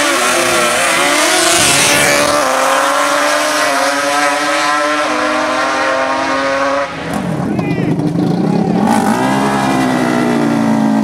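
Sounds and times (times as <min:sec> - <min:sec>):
racing engine revving high: 0:00.0 - 0:11.0.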